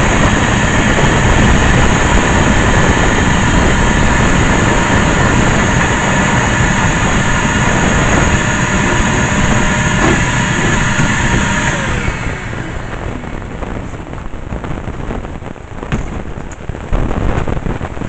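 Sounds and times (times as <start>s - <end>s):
vacuum cleaner running: 0.0s - 16.5s.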